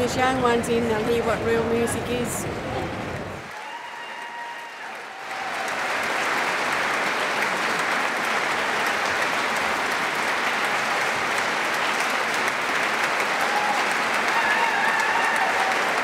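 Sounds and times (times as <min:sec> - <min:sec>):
audience applauding: 0:03.1 - 0:16.0.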